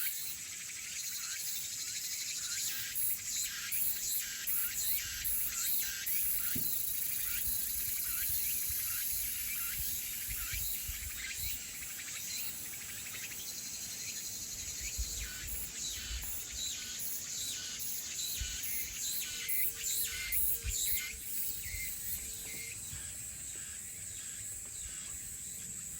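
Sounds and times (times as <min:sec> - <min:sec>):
crickets and cicadas shrilling: 0:00.0 - 0:25.9
short falling insect calls: 0:02.4 - 0:25.9.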